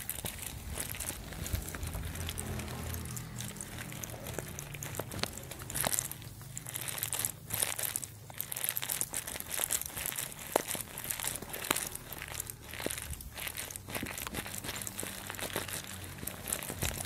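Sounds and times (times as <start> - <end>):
animals chewing hay: 0.0 - 17.0.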